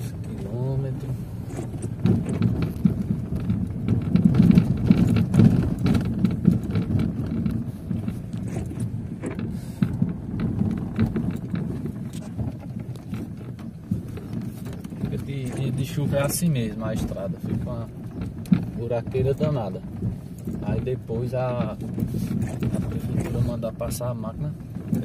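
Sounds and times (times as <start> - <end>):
car road rumble inside cabin: 0.0 - 25.0
suspension knocks and rattles: 0.0 - 25.0.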